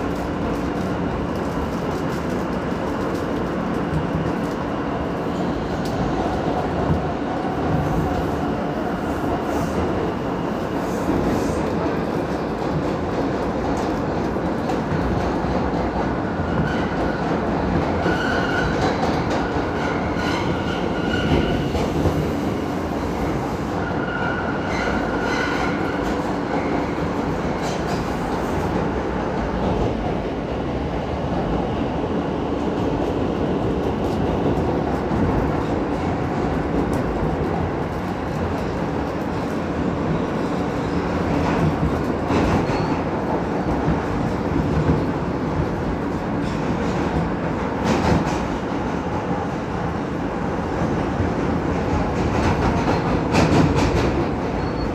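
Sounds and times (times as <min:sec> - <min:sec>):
subway wheels rumbling on rails: 0:00.0 - 0:54.9.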